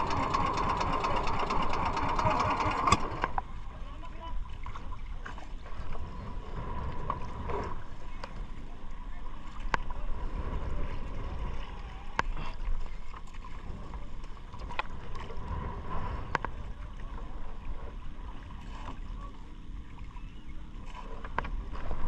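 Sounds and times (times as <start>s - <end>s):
water lapping against a boat: 0.0s - 22.0s
wind: 0.0s - 22.0s.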